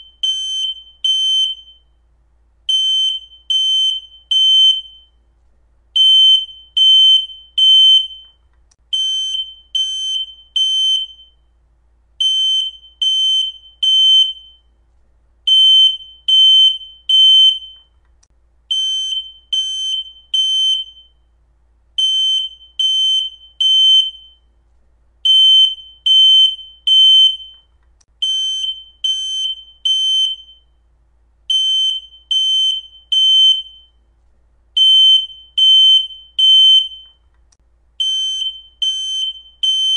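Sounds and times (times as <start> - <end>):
smoke detector alarm beeps: 0.0 - 2.0, 2.7 - 5.2, 6.0 - 11.5, 12.2 - 14.8, 15.5 - 17.9, 18.7 - 21.3, 22.0 - 24.5, 25.2 - 30.8, 31.5 - 34.0, 34.8 - 37.2, 38.0 - 39.9.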